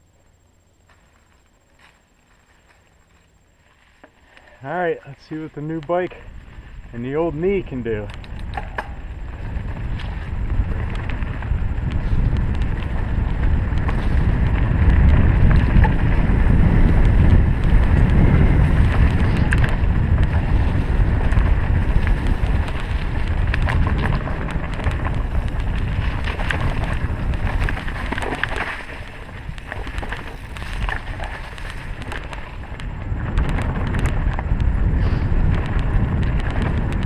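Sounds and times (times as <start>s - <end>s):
bike clicks and rattles: 2.6s - 37.0s
wind buffeting microphone: 4.6s - 37.0s.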